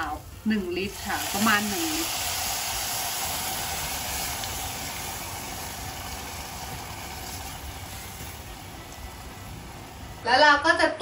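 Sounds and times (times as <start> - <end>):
pot hissing and sizzling: 0.0 - 10.3.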